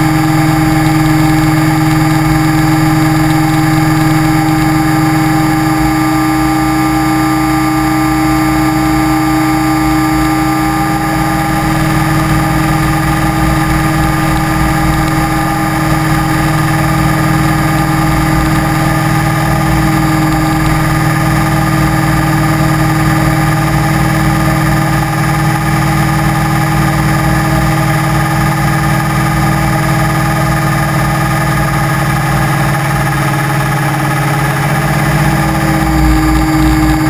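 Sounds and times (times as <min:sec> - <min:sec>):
model aircraft motor whine: 0:00.0 - 0:37.0.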